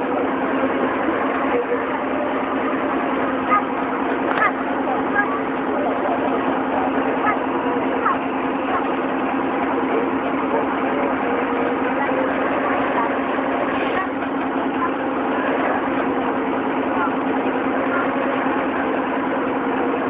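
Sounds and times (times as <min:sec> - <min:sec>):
car engine idling: 0:00.0 - 0:20.0
spectators chatter: 0:00.0 - 0:20.0.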